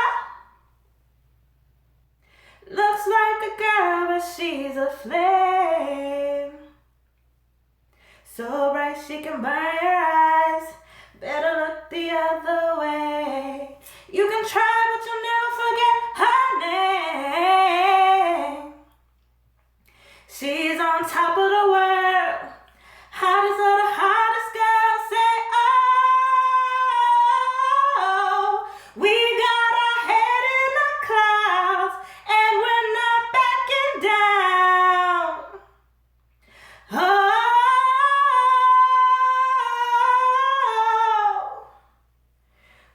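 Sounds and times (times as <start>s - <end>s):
woman singing unaccompanied: 2.7s - 6.8s, 8.3s - 18.9s, 20.3s - 22.6s, 23.2s - 35.7s, 36.9s - 41.8s.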